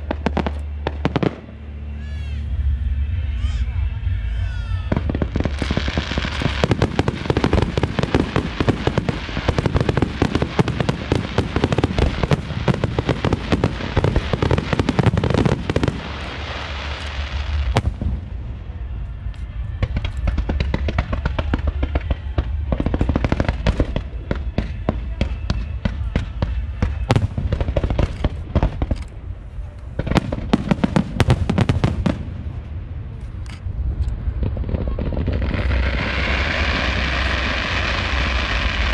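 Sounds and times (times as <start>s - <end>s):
fireworks bangs and crackling: 0.0s - 1.8s, 4.8s - 38.9s.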